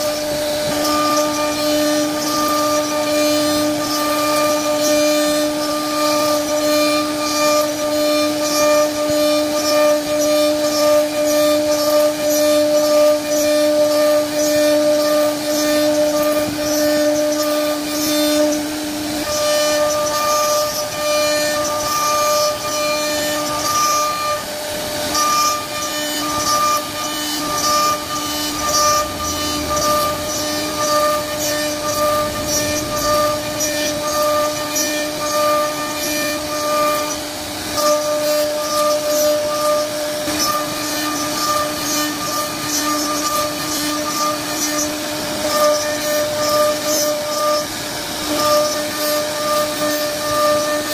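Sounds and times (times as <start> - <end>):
bit cutting into wood: 0.0 - 50.9
router spindle high whine: 0.0 - 50.9.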